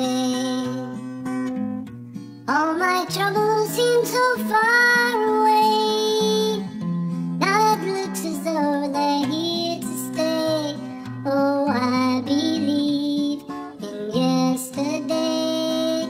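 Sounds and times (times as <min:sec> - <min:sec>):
person singing a slow ballad: 0:00.0 - 0:01.1, 0:02.5 - 0:16.0
acoustic guitar: 0:00.0 - 0:16.0.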